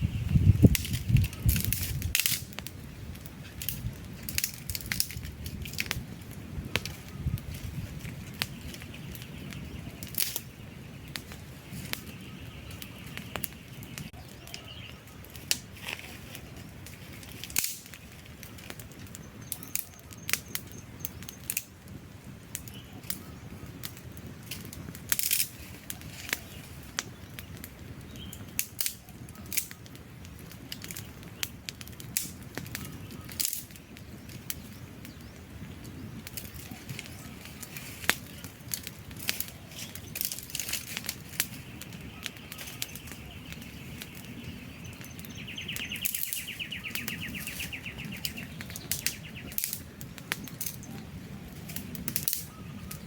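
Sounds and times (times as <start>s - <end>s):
campfire crackling and popping: 0.0s - 53.0s
rush of burning flames: 0.0s - 53.0s.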